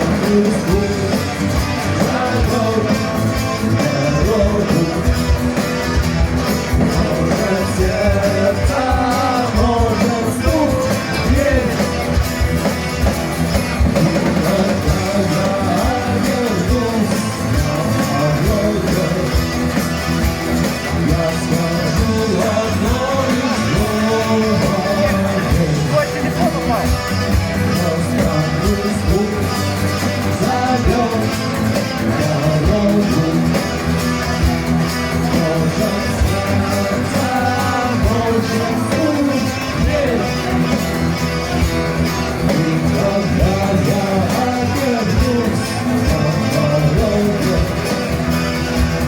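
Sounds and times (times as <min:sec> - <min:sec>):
man singing: 0:00.0 - 0:05.7, 0:06.7 - 0:12.2, 0:13.9 - 0:19.9, 0:20.6 - 0:41.0, 0:42.2 - 0:48.5
rock band playing live: 0:00.0 - 0:49.0.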